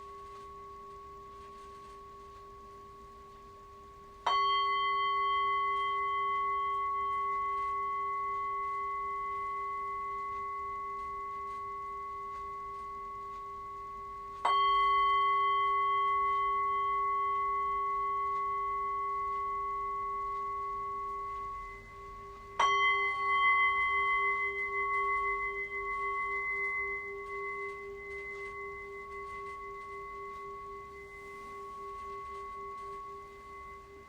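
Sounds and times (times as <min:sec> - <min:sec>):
singing bowl ringing: 0:00.0 - 0:34.0.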